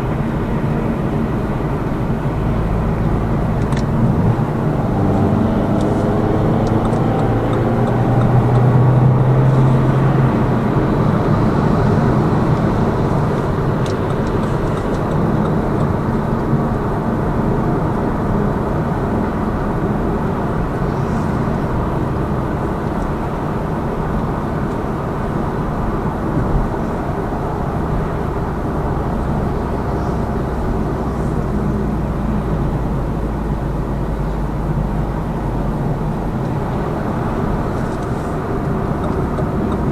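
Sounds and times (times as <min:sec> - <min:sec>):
car engine accelerating: 0:00.0 - 0:39.9
tyre and road noise: 0:00.0 - 0:39.9.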